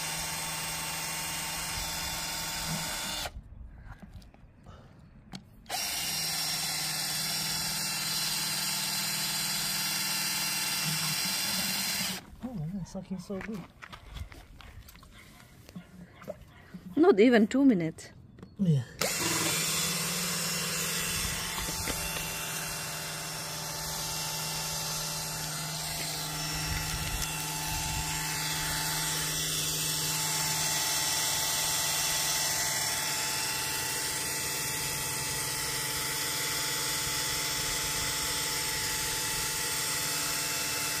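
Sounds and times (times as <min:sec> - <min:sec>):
cordless drill pump whining: 0:00.0 - 0:04.2, 0:05.7 - 0:12.3, 0:19.0 - 0:41.0.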